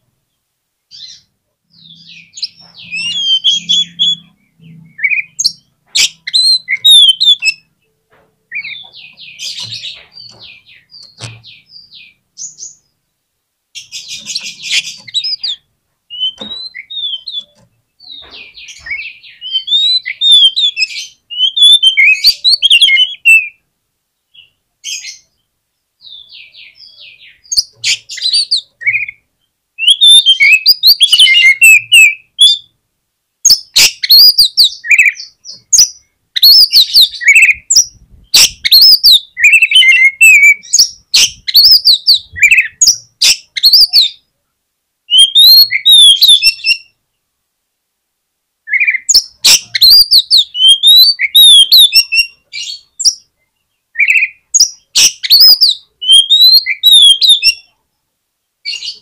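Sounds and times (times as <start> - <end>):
songbird singing whistles and chirps: 0.9 - 13.0, 13.8 - 23.6, 24.3 - 32.8, 33.4 - 44.3, 45.1 - 47.0, 48.6 - 57.8, 58.7 - 59.0.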